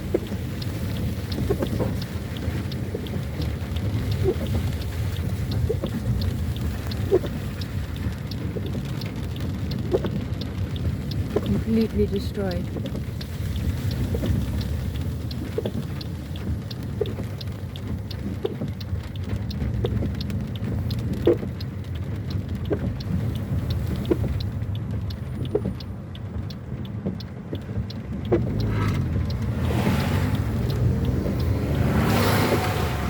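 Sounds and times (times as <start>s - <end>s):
car engine and road noise: 0.0s - 33.0s
light ticks and taps: 0.0s - 33.0s.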